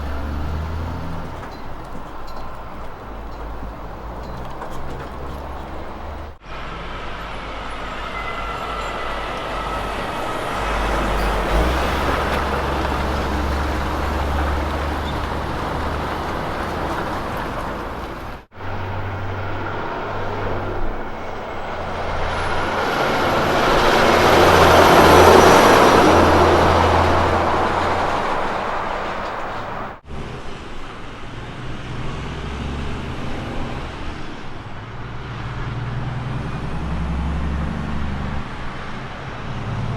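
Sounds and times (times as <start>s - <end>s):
truck diesel engines running: 0.0s - 39.9s
truck passing by: 0.0s - 39.9s.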